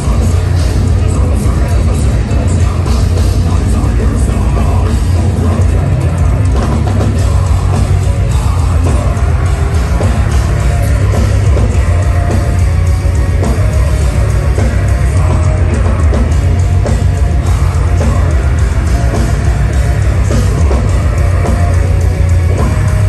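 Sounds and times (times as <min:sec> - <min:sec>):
distorted guitars and bass: 0:00.0 - 0:23.0
fast pounding drums: 0:00.0 - 0:23.0.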